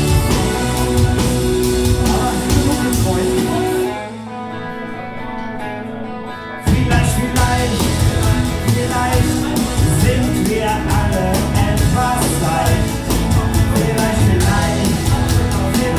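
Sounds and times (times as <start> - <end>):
held guitar notes: 0.0 - 15.9
live pop-rock band: 0.0 - 15.9.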